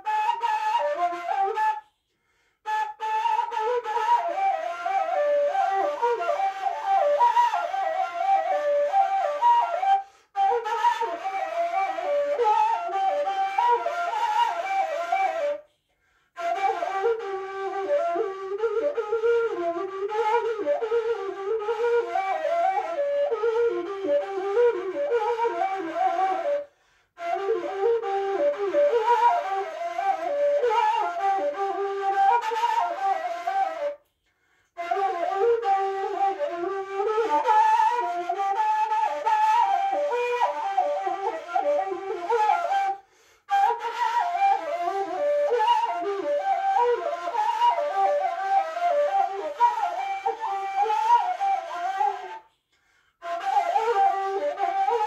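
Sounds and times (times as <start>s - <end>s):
wooden flute folk melody: 0.0s - 55.0s.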